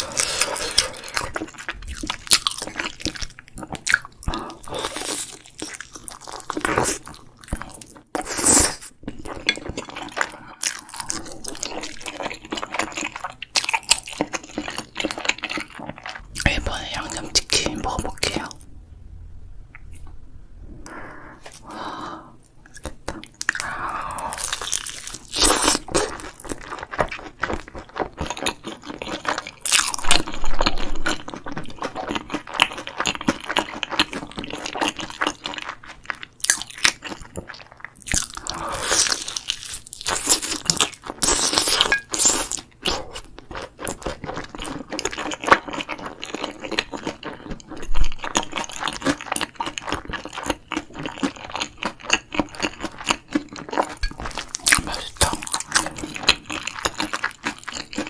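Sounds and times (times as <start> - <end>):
crunching and chewing fried chicken: 0.0 - 18.5, 22.7 - 58.0.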